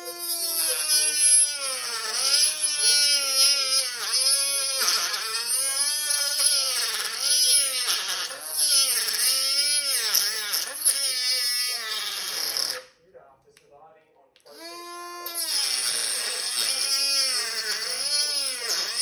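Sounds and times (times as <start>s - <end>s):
rotary tool motor whine: 0.0s - 12.8s, 14.5s - 19.0s.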